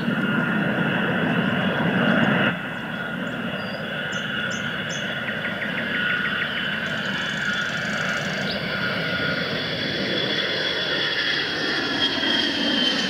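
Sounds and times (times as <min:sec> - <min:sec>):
jet aircraft passing: 0:00.0 - 0:13.0.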